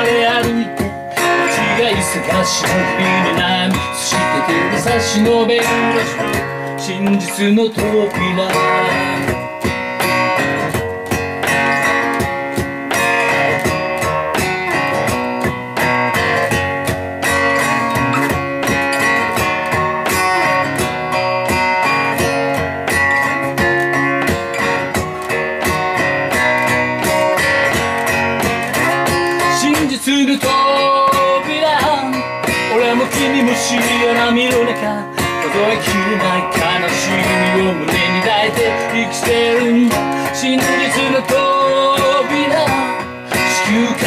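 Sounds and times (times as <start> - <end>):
acoustic guitar strumming: 0.0 - 44.0.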